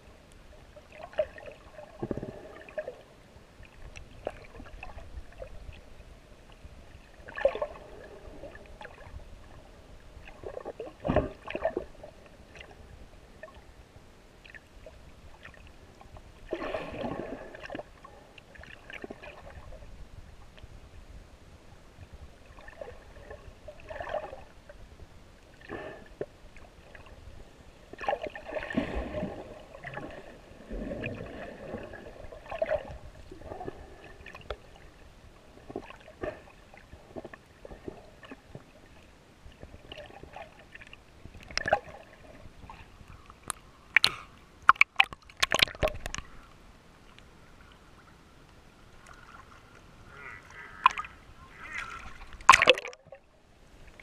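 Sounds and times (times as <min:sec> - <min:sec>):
water sloshing and gurgling: 0:00.0 - 0:21.0, 0:21.9 - 0:54.0.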